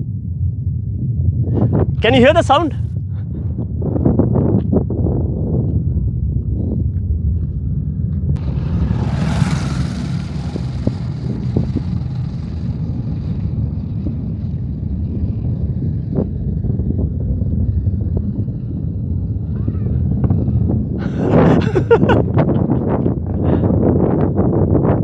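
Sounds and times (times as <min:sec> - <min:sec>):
distant rocket rumble: 0:00.0 - 0:25.0.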